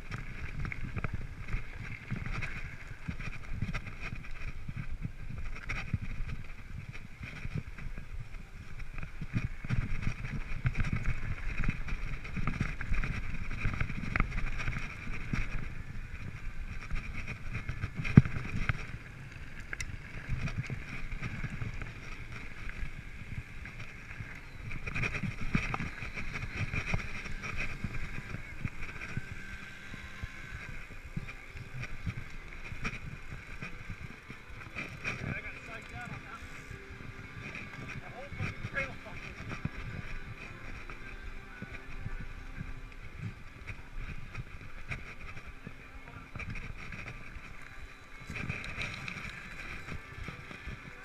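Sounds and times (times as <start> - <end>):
low tyre rumble: 0.0 - 51.0
wind rushing over microphone: 0.0 - 51.0.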